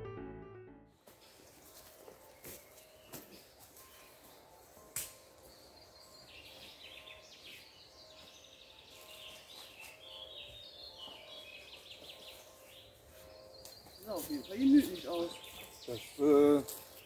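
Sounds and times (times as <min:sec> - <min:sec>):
small birds chirping: 0:01.2 - 0:17.0.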